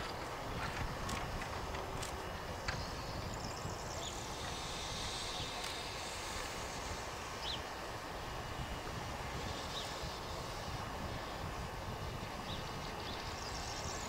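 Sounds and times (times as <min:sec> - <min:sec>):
steam locomotive low rumble: 0:00.0 - 0:14.0.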